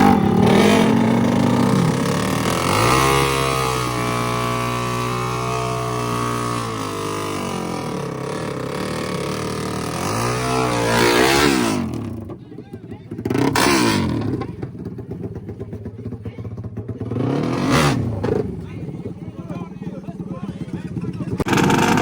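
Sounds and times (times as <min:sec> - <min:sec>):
dirt bike engine revving: 0:00.0 - 0:12.4, 0:13.0 - 0:15.8, 0:16.6 - 0:22.0.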